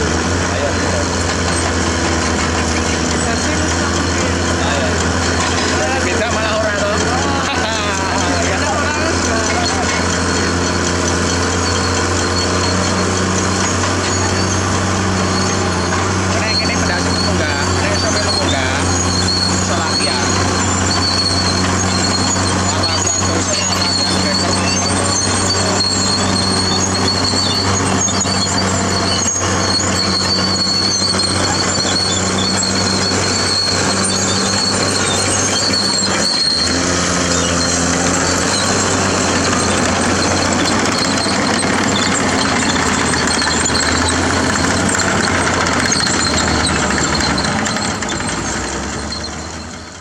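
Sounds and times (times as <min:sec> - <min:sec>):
high whine: 0:00.0 - 0:49.7
bulldozer diesel engine running: 0:00.0 - 0:50.0.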